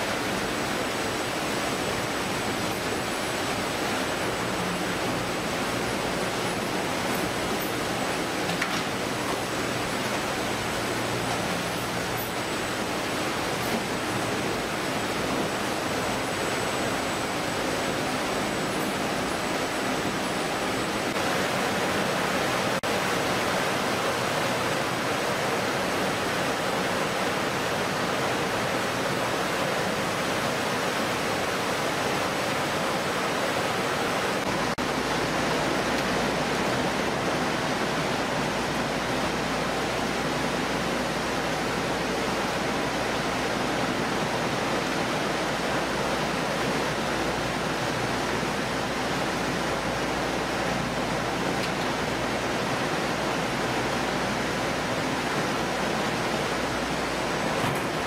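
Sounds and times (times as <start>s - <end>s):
conveyor machinery: 0.0s - 58.0s
water sprays rushing: 0.0s - 58.0s.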